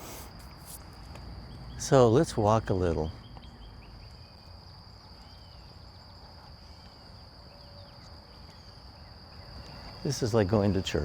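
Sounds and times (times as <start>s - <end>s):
insects trilling: 0.0s - 11.0s
faint bird chirps: 1.2s - 11.0s.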